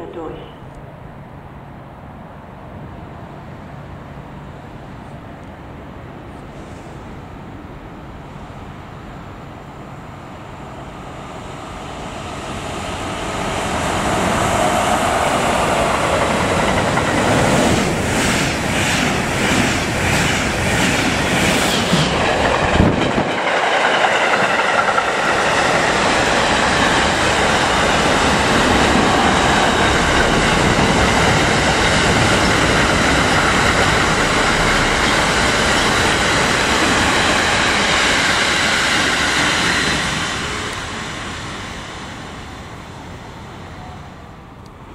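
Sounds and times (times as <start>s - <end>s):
freight train rumble and rattle: 0.0s - 44.9s.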